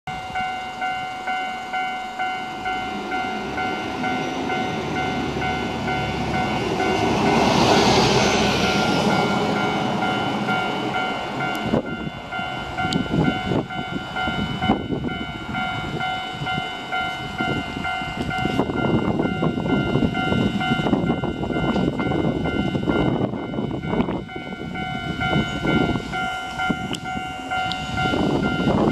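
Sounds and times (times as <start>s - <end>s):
level crossing warning bell: 0.1s - 28.9s
train passing: 0.1s - 28.9s.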